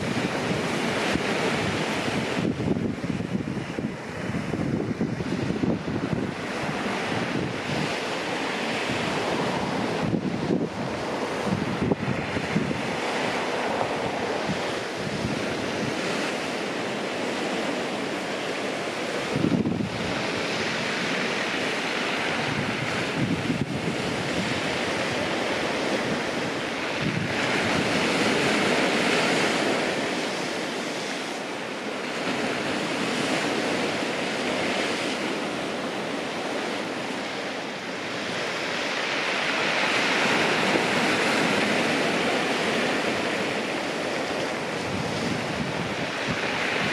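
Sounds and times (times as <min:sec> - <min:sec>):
waves breaking on pebble beach: 0:00.0 - 0:46.9
wind buffeting microphone: 0:00.0 - 0:46.9.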